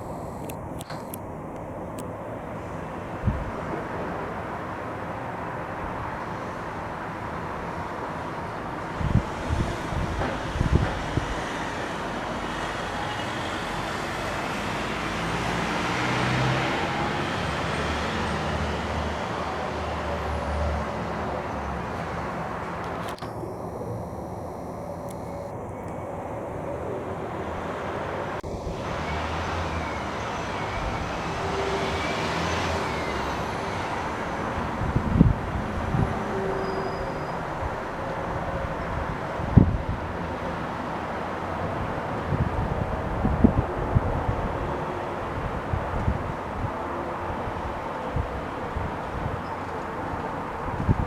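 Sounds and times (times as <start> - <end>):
hum of passing vehicles: 1.3 - 23.2, 26.1 - 51.0.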